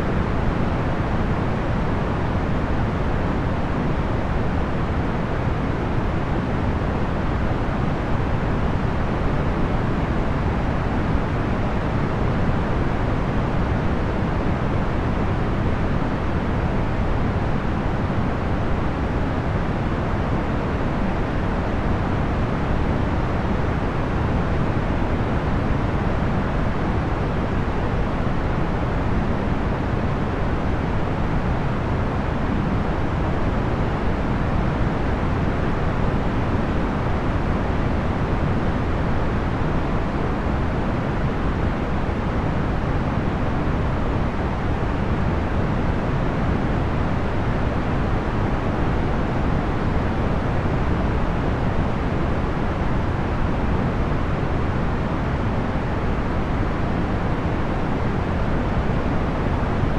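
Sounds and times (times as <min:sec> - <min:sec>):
fan whoosh of air: 0:00.0 - 0:59.9.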